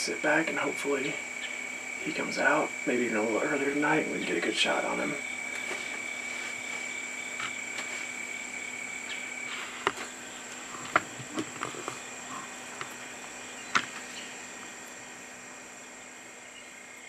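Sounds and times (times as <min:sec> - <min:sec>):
high-pitched insect drone: 0:00.0 - 0:17.0
lower insect tone: 0:00.0 - 0:17.0.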